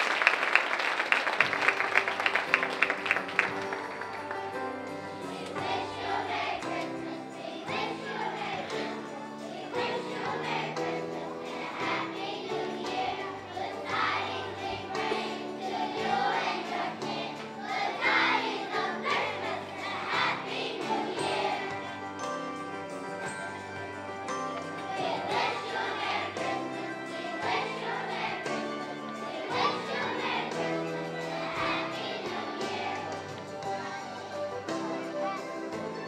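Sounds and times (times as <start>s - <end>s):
children's choir singing: 0.0s - 36.0s
instrumental accompaniment: 1.4s - 36.0s.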